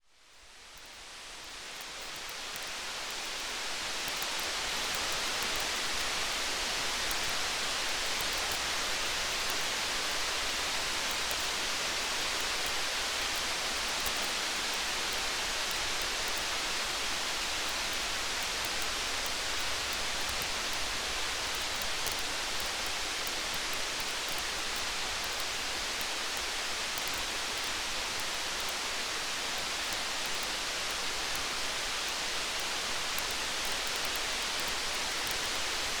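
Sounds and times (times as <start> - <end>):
faint high ticks: 0.7 - 36.0.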